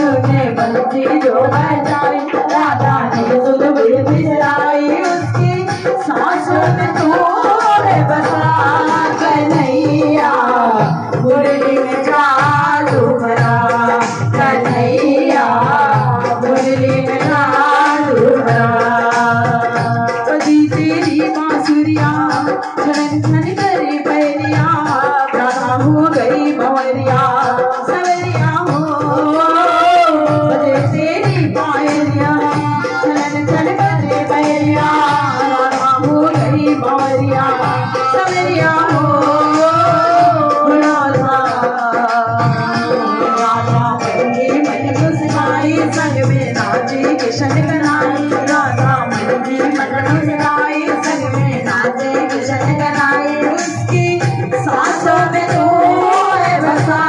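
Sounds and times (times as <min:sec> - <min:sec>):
drum thudding steady beat: 0:00.0 - 0:57.0
woman singing into microphone: 0:00.0 - 0:57.0.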